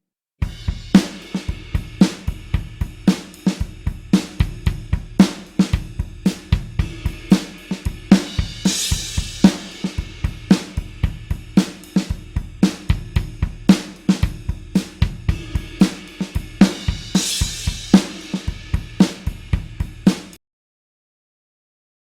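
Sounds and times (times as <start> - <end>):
rock drum beat: 0.4 - 20.4
cymbal crash: 0.5 - 12.4, 13.3 - 20.0.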